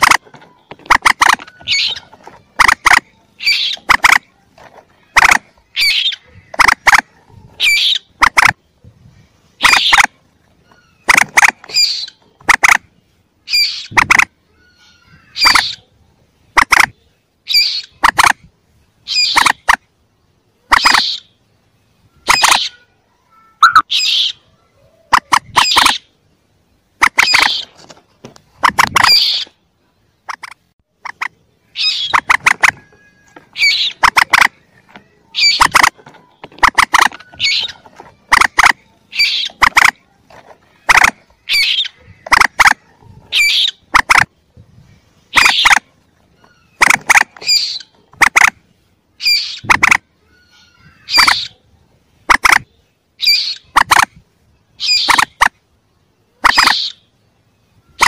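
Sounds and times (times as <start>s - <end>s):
moorhen calls: 0.0s - 18.4s, 19.0s - 19.8s, 20.5s - 26.2s, 27.0s - 27.9s, 28.5s - 29.6s, 30.2s - 55.5s, 56.3s - 57.2s.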